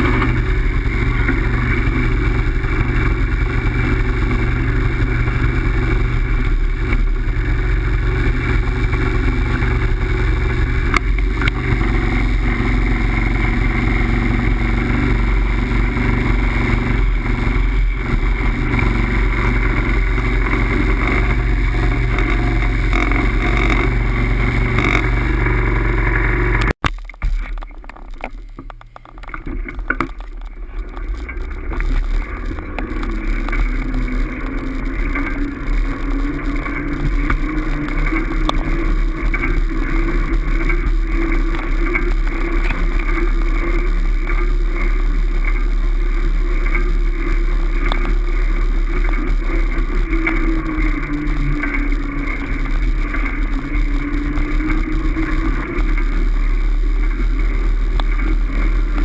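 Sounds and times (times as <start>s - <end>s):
ride rumbling and rushing: 0.0s - 59.0s.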